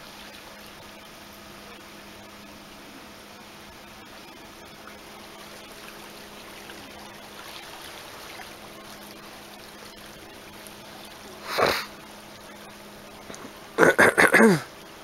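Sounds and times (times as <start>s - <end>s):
sea water trickling along shore: 0.0s - 13.8s, 14.7s - 15.0s
faint steady hum: 0.0s - 15.0s.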